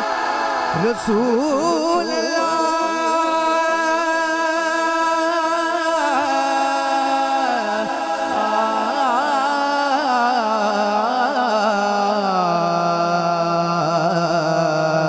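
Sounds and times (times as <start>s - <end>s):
man singing: 0.7s - 15.0s.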